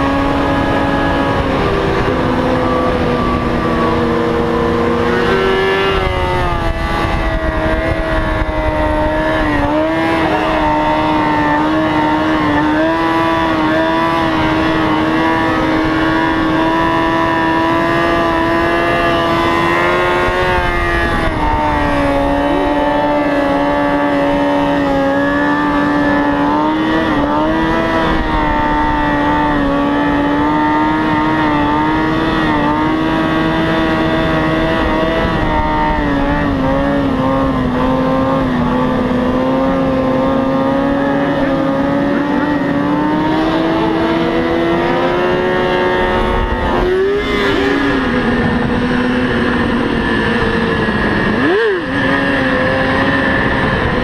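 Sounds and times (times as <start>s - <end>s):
motorcycle engine revving high: 0.0s - 54.0s.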